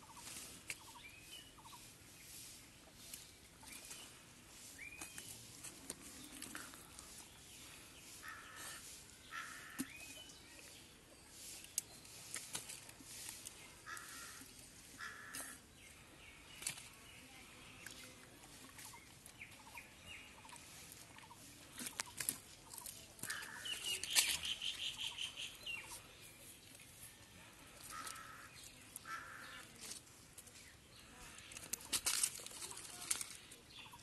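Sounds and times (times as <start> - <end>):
birds calling: 0.0 - 17.2, 17.8 - 30.0.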